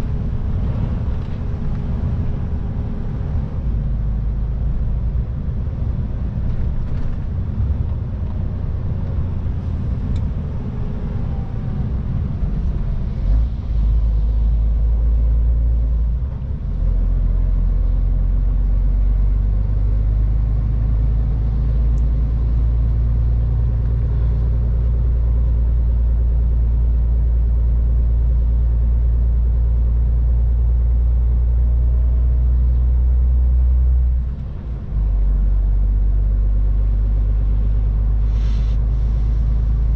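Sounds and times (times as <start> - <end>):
road noise: 0.0 - 39.9
truck diesel engine rumbling: 0.0 - 39.9.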